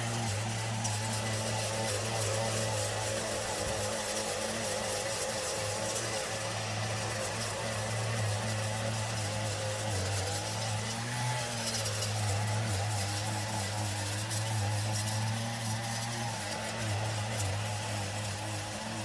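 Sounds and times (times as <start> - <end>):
brush cutter cutting grass: 0.0 - 19.0.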